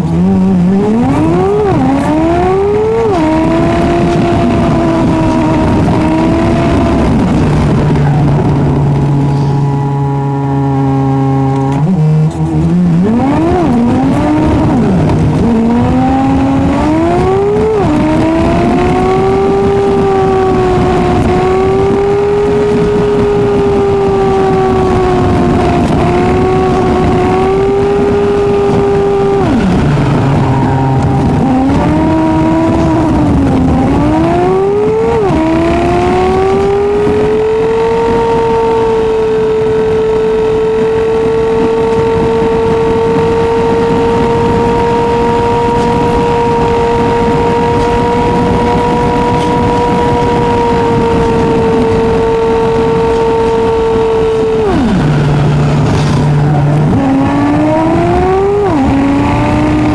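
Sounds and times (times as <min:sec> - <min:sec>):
sped-up car engine: 0:00.0 - 0:59.9.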